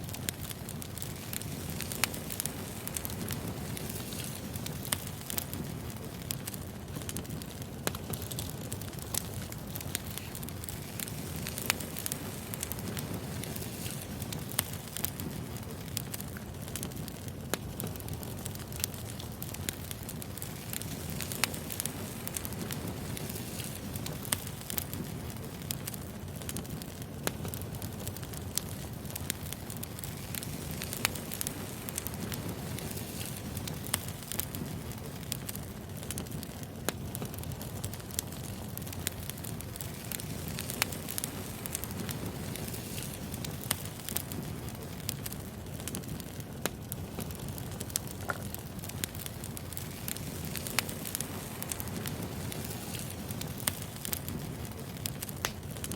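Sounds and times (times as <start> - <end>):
logs crackling and popping: 0.0 - 55.9
wood fire rumbling: 0.0 - 55.9.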